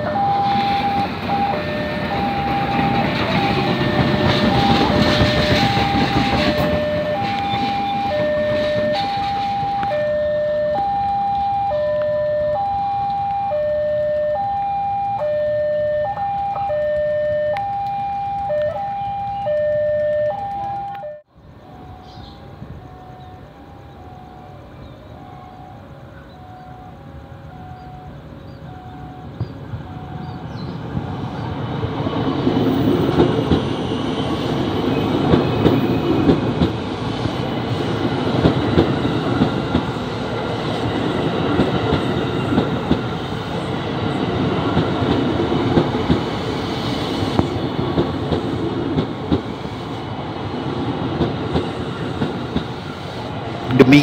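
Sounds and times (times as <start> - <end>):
train wheels rumbling on rail: 0.0 - 15.4, 16.0 - 54.0.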